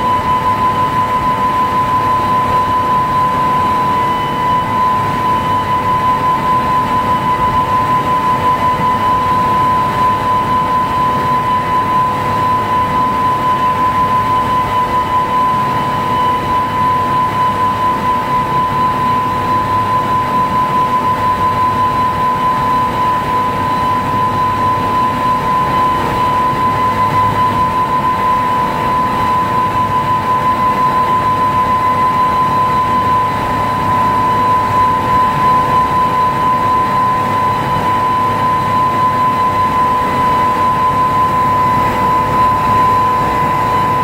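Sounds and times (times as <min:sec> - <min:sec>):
high-pitched whine: 0:00.0 - 0:44.0
motorboat engine drone: 0:00.0 - 0:44.0.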